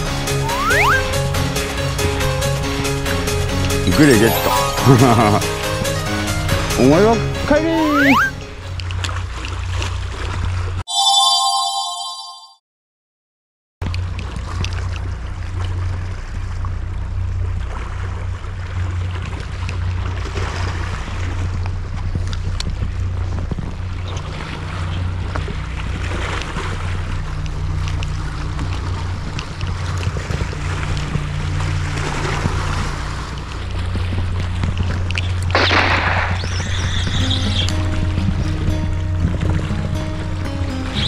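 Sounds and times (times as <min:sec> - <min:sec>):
wind: 0:00.0 - 0:10.9, 0:13.8 - 0:41.0
boat engine humming: 0:00.0 - 0:11.5, 0:13.9 - 0:41.0
waves: 0:00.0 - 0:12.2, 0:13.8 - 0:41.0.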